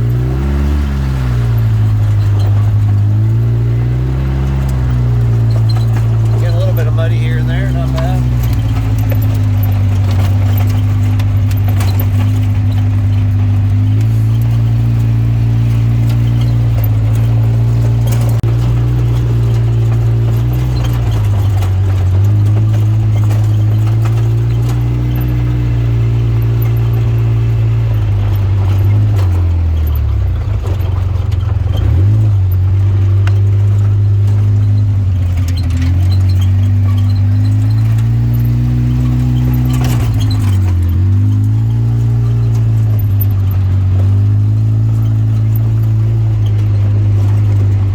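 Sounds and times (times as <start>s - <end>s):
off-road vehicle engine revving: 0.0s - 47.9s.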